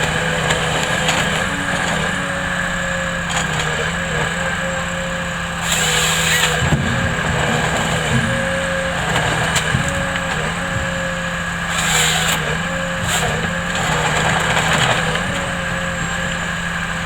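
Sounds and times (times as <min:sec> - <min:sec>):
machine engine running: 0:00.0 - 0:17.0
wood cracking and splintering: 0:00.0 - 0:17.0.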